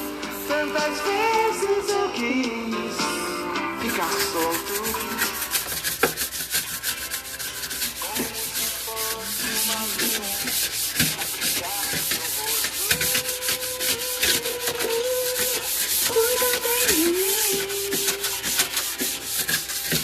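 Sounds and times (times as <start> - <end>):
hand rubbing strokes: 0.0 - 2.0, 3.8 - 20.0.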